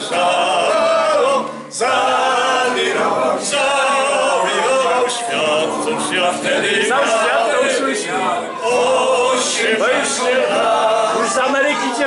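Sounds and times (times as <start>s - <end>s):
classical guitar: 0.0s - 11.4s
group singing together: 0.0s - 12.0s.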